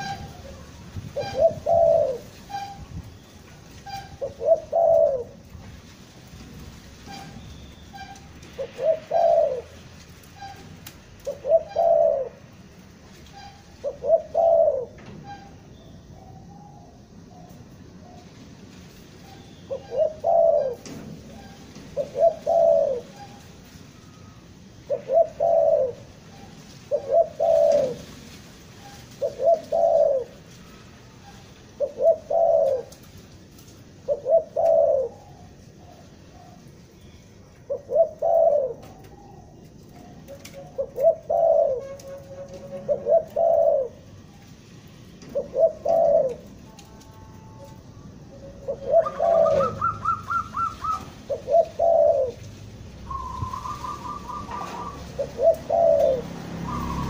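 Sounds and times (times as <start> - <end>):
dove cooing: 0.0 - 3.0, 3.8 - 5.5, 7.0 - 12.6, 13.3 - 15.5, 19.2 - 23.5, 24.1 - 28.2, 28.8 - 33.1, 34.0 - 44.5, 45.2 - 57.0.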